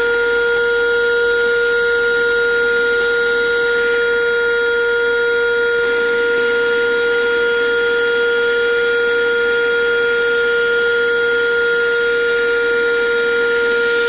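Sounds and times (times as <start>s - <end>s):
car vacuum cleaner whine: 0.0s - 14.0s.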